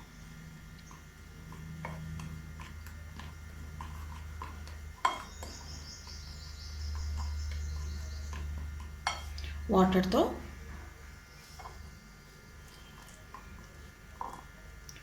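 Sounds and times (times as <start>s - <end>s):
spoon stirring dry flour: 0.8s - 14.7s.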